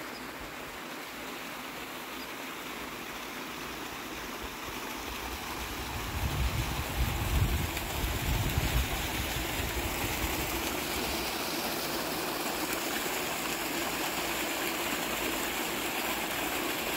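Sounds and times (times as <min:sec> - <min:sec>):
stream splashing over rocks: 0:00.0 - 0:16.9.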